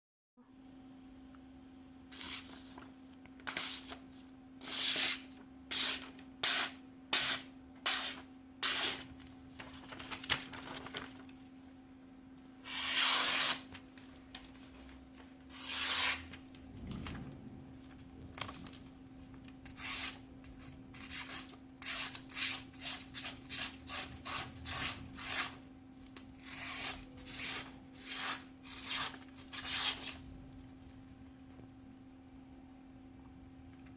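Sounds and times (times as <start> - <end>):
steady low hum: 0.4 - 33.9.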